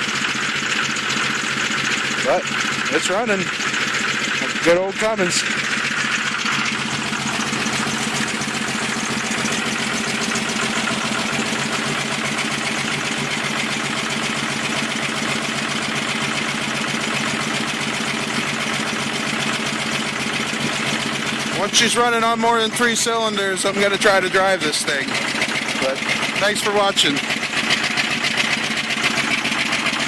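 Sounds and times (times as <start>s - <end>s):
diesel engine idling with clatter: 0.0s - 30.0s.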